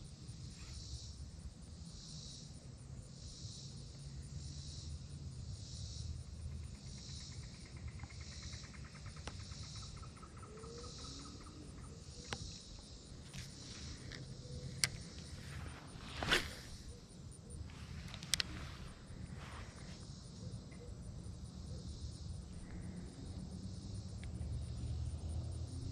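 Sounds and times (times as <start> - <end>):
insects calling in high pulses: 0.0 - 25.9.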